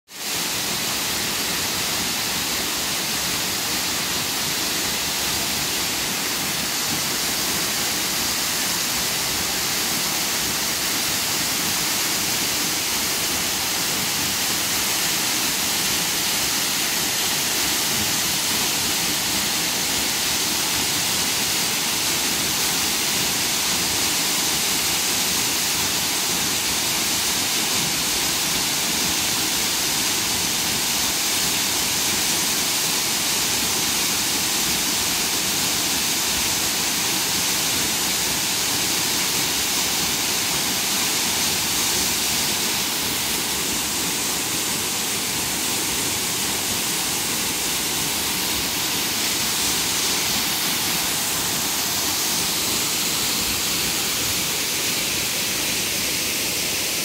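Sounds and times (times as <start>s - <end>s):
waterfall rushing: 0.1s - 57.0s.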